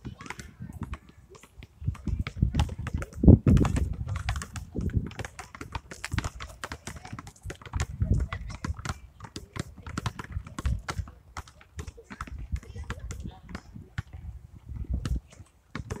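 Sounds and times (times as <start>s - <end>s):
basketballs bouncing on asphalt: 0.0s - 16.0s.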